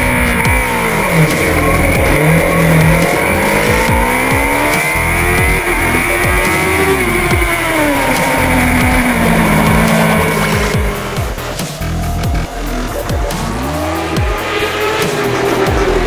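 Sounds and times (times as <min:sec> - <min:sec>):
motorcycle engine revving hard: 0:00.0 - 0:16.0
other motorcycle engines: 0:00.0 - 0:16.0.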